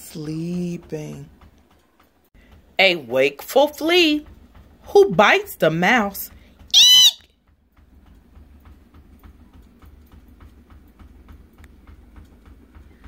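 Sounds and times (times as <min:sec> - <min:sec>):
faint steady ticking: 0:00.0 - 0:13.0.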